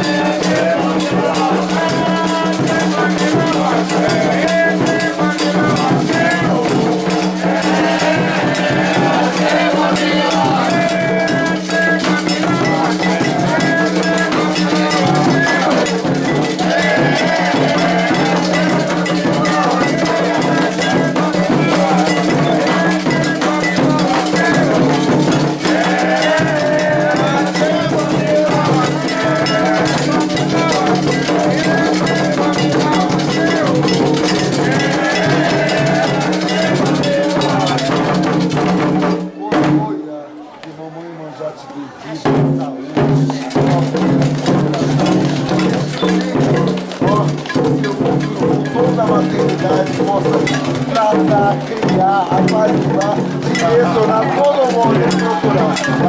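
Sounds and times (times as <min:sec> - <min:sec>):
people singing: 0:00.0 - 0:39.9, 0:42.2 - 0:56.0.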